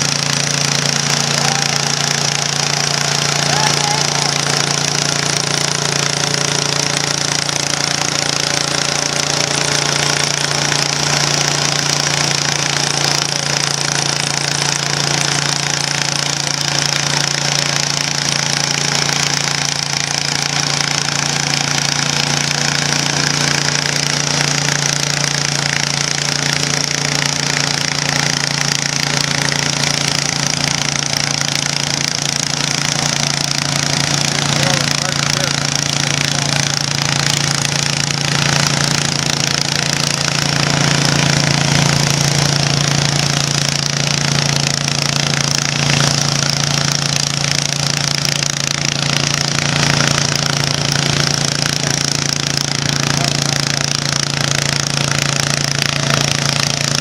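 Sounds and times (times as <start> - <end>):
garden tractor engine running hard: 0.0 - 57.0.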